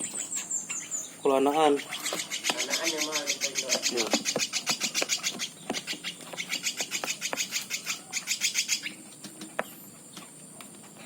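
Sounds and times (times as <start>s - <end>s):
woodpecker chicks begging calls: 0.0s - 10.9s.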